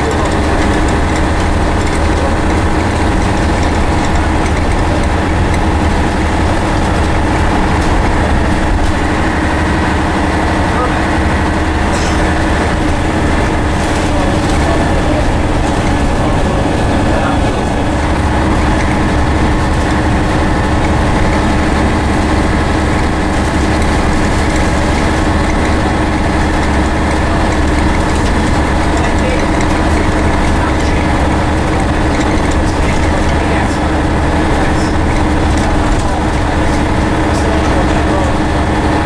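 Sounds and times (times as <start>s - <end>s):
bus engine droning: 0.0s - 39.0s
road and rattle noise: 0.0s - 39.0s.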